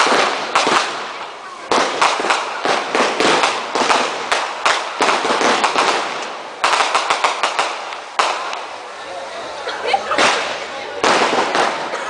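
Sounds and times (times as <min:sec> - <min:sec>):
fireworks banging: 0:00.0 - 0:09.1, 0:09.8 - 0:12.0.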